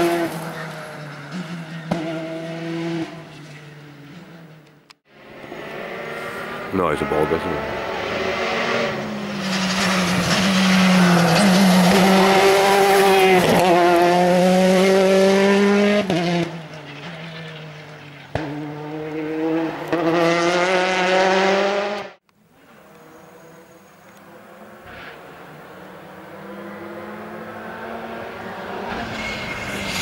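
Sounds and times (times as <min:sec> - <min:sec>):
rally car engine accelerating: 0:00.0 - 0:30.0.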